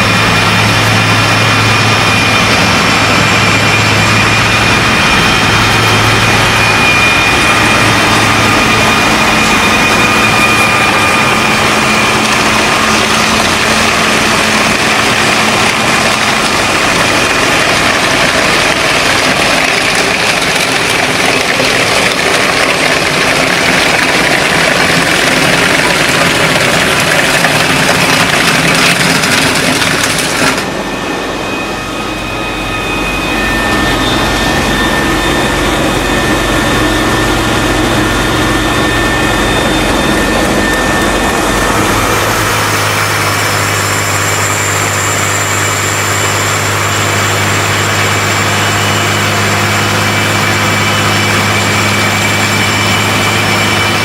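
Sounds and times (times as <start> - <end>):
dense rushing noise: 0.0 - 54.0
heavy machine engine running: 0.0 - 54.0.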